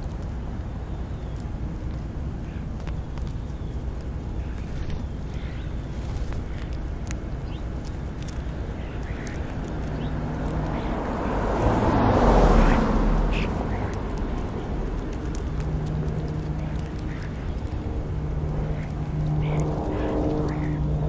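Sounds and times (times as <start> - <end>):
starlings calling harshly: 0.0 - 21.0
steady low hum: 0.0 - 21.0.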